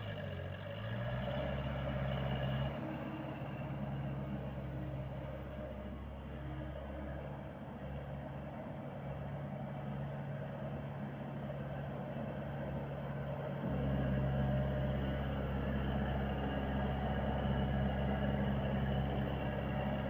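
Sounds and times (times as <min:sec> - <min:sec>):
skid steer loader engine running: 0:00.0 - 0:20.0.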